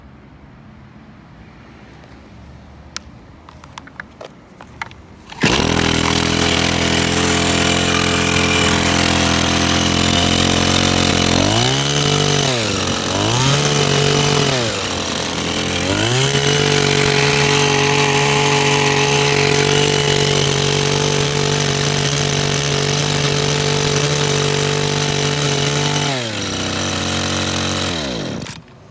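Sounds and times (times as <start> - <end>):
starter clicks: 3.0 - 27.0
small two-stroke engine running: 5.3 - 28.7.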